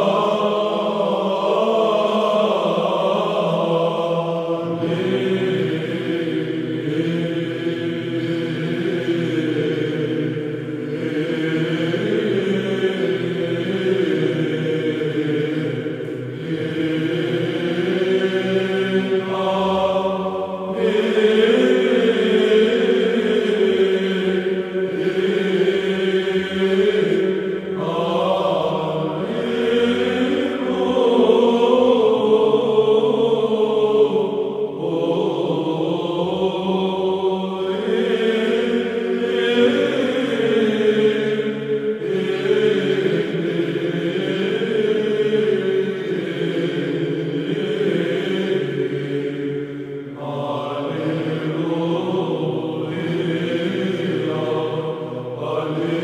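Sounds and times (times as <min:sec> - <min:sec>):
slow vocal chant: 0:00.0 - 0:56.0.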